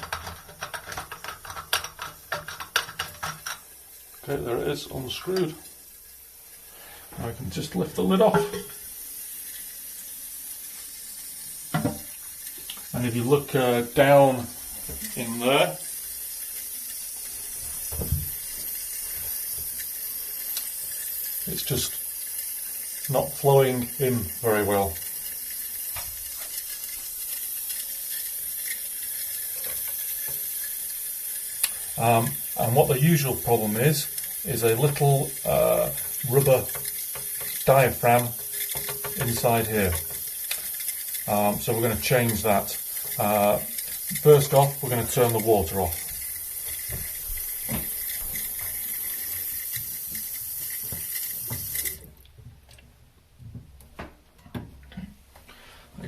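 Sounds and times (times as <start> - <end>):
toilet cistern filling hiss: 0.0 - 52.2.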